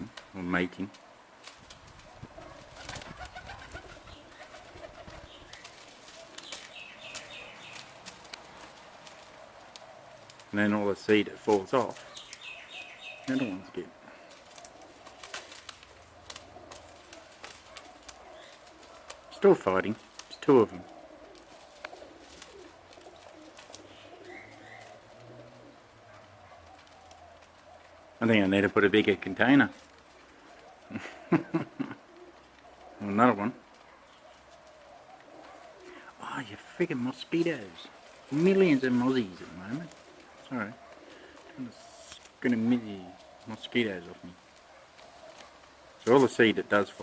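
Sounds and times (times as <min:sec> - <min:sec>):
birds calling: 0:00.0 - 0:47.0
doves cooing softly: 0:00.0 - 0:47.0.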